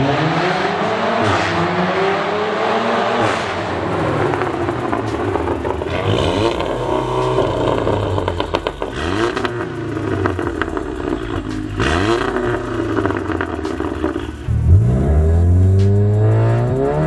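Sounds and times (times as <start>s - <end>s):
car engine revving: 0.0s - 17.0s
exhaust crackles and pops: 3.3s - 17.0s.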